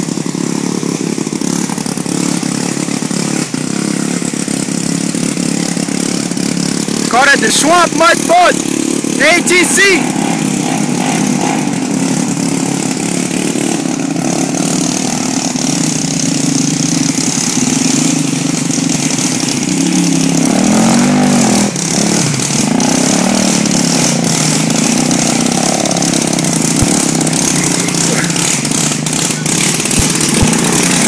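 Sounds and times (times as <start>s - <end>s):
three-wheeler engine revving: 0.0s - 31.0s.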